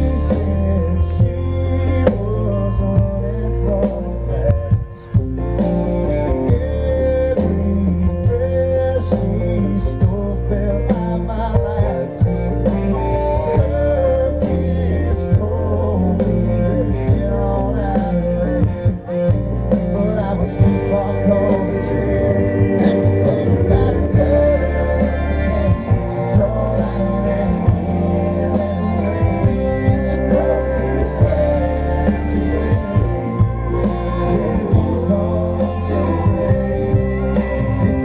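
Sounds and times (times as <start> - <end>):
live country band playing: 0.0 - 38.0
man singing lead: 0.0 - 38.0.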